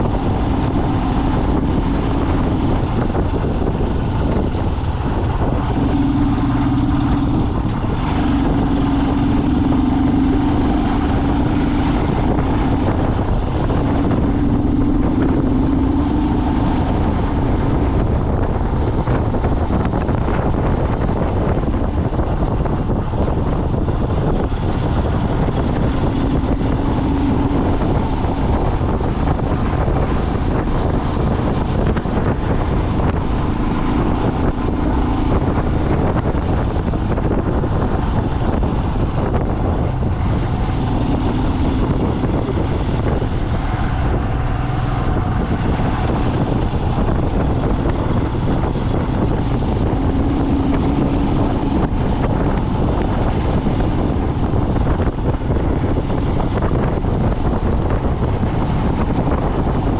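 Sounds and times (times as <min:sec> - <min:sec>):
low hum: 0:00.0 - 0:59.9
vehicle engine and road noise: 0:00.0 - 0:59.9.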